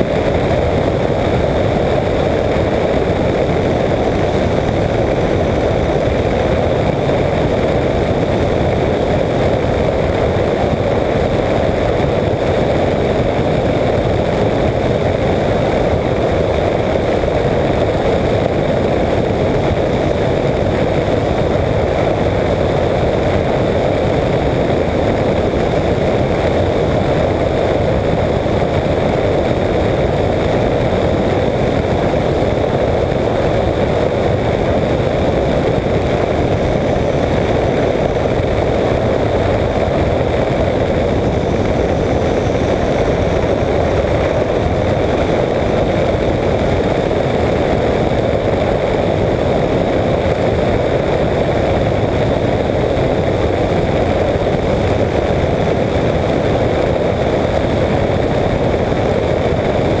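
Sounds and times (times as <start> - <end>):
microlight engine and propeller drone: 0.0 - 60.0
rushing air: 0.0 - 60.0.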